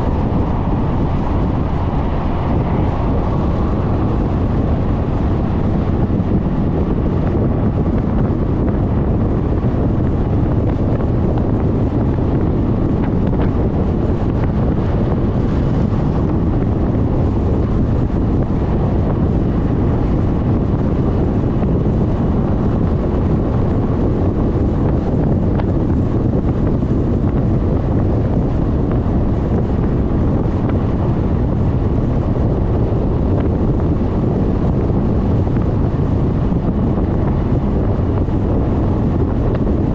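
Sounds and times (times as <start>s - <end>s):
scooter engine and road noise: 0.0s - 39.9s
wind buffeting microphone: 0.0s - 39.9s.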